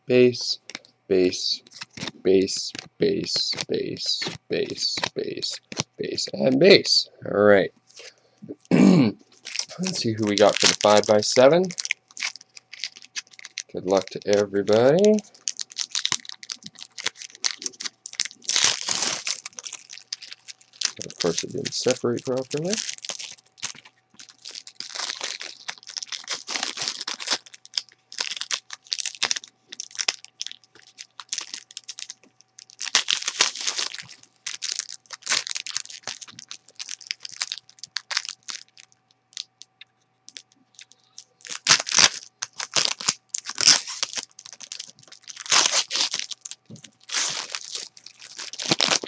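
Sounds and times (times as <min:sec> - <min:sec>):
foil wrappers crinkling and tearing: 0:01.5 - 0:06.0, 0:09.3 - 0:39.6, 0:40.3 - 0:49.0.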